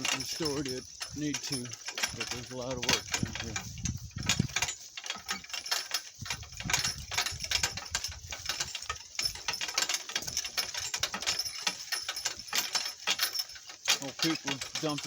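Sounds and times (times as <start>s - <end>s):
cart rattling over rough ground: 0.0s - 15.0s.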